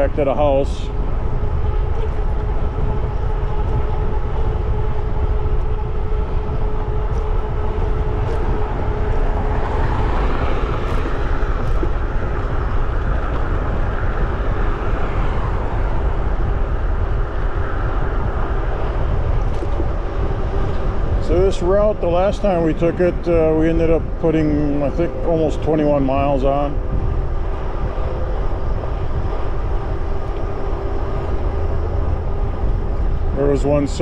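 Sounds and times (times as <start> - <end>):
electric motor whine: 0.0 - 34.0
wind over microphone: 0.0 - 34.0.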